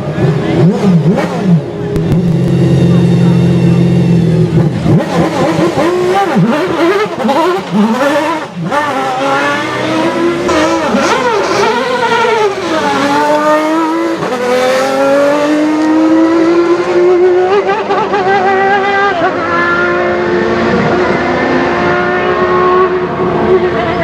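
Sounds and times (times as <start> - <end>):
racing engine revving hard: 0.1 - 24.0.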